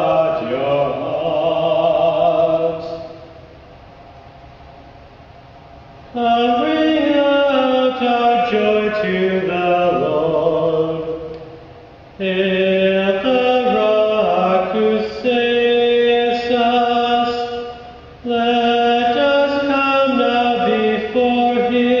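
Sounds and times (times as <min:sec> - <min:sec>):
slow sung chant: 0:00.0 - 0:03.7, 0:06.0 - 0:22.0.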